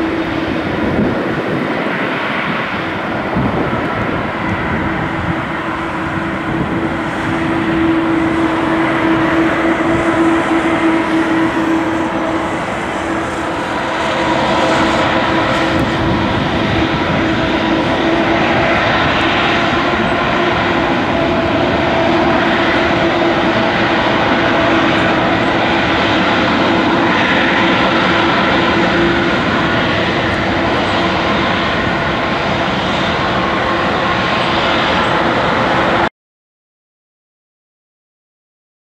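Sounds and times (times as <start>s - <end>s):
jet engines whining: 0.0s - 36.1s.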